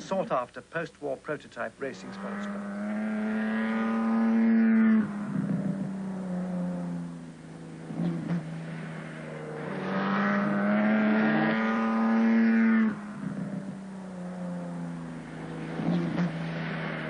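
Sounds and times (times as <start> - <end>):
sports car engine accelerating: 1.8 - 17.0.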